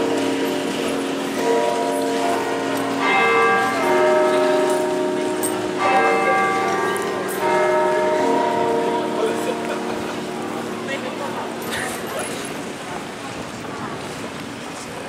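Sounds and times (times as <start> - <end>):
bells ringing: 0.0 - 12.8.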